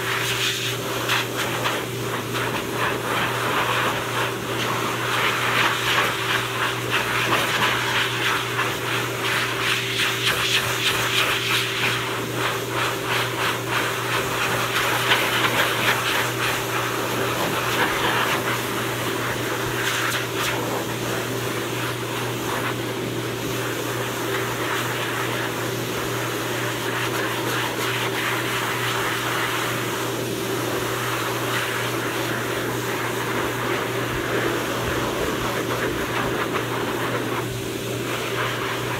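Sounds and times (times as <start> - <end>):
pet dryer blowing air: 0.0 - 38.9.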